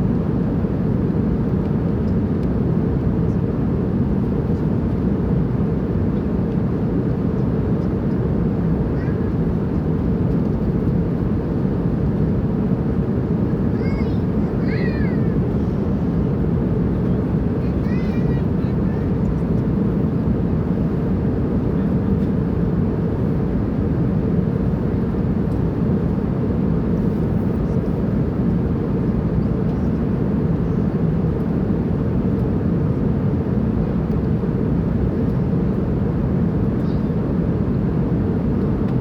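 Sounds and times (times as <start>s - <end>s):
airplane engine and air noise: 0.0s - 39.0s.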